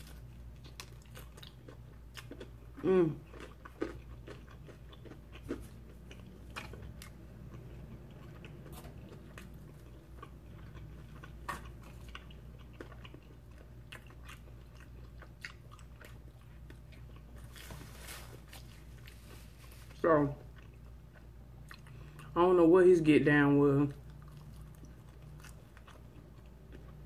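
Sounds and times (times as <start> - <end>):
person chewing: 0.0 - 22.4, 24.0 - 27.0
low steady hum: 0.0 - 27.0.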